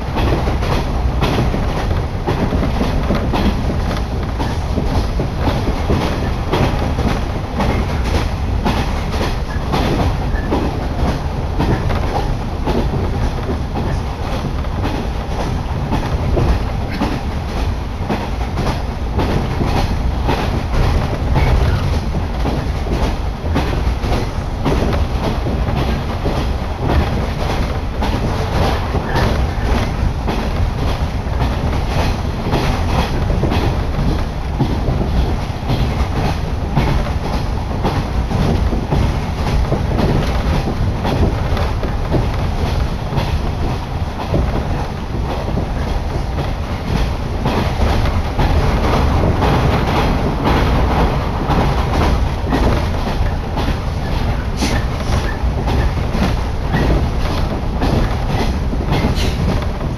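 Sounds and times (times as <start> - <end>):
train wheels rumbling: 0.0 - 59.9
wheels clacking over rail joints: 0.0 - 59.9.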